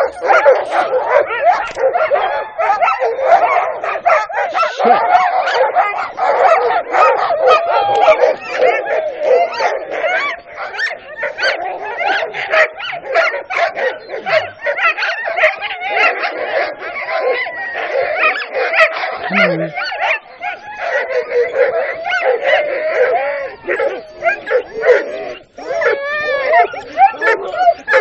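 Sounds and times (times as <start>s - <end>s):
dogs barking and yelping: 0.0s - 28.0s.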